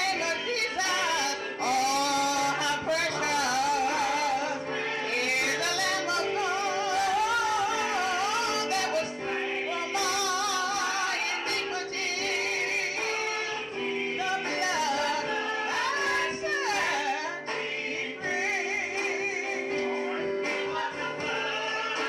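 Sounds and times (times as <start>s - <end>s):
choir singing gospel: 0.0s - 22.0s.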